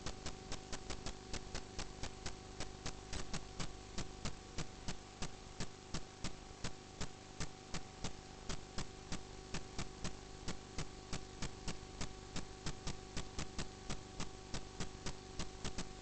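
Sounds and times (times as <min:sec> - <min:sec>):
electrical hum: 0:00.0 - 0:16.0
sharp ticks: 0:00.2 - 0:15.9.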